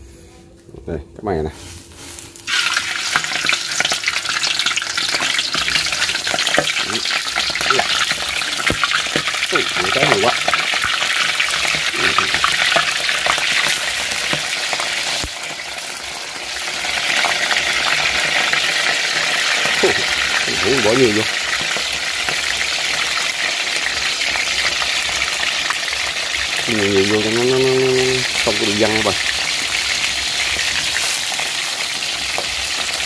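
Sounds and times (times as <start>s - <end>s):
fish sizzling in hot oil: 1.8s - 33.0s.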